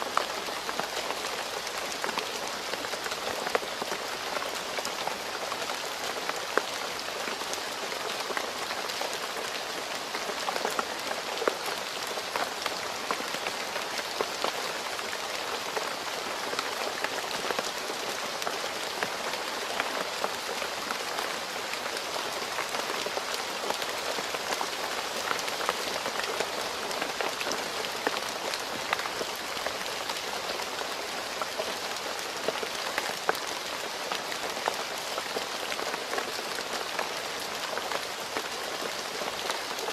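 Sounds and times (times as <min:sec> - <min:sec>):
rain falling on road: 0:00.0 - 0:39.9.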